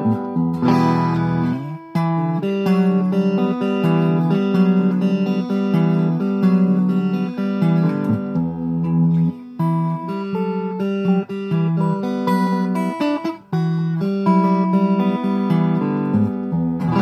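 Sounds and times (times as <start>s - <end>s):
clean electric guitar notes and chords: 0.0s - 17.0s.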